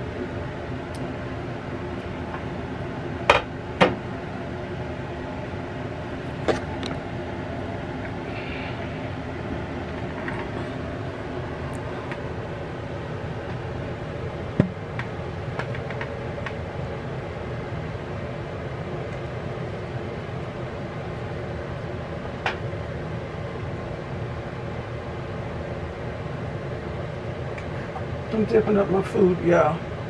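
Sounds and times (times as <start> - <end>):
kitchen appliance fan humming: 0.0 - 30.0.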